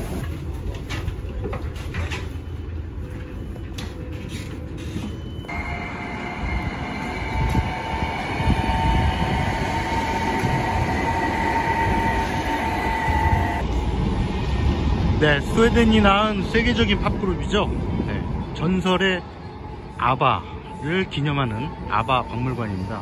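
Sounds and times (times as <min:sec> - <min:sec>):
tram high whine: 0:00.0 - 0:23.0
tram rolling rumble: 0:00.0 - 0:23.0.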